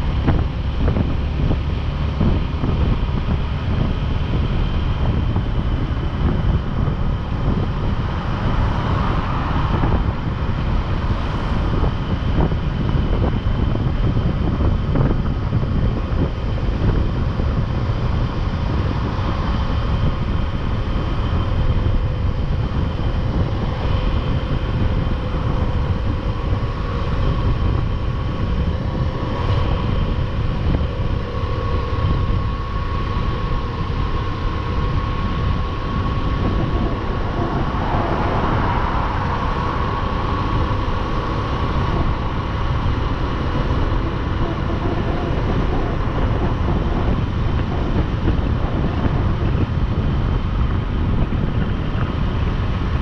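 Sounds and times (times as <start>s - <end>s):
motorcycle engine cruising: 0.0s - 53.0s
wind noise on microphone: 0.0s - 53.0s.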